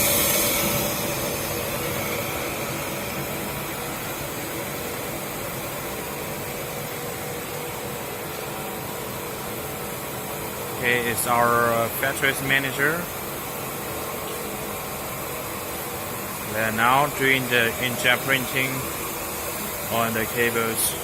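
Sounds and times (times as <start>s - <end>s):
production line hiss: 0.0s - 21.0s.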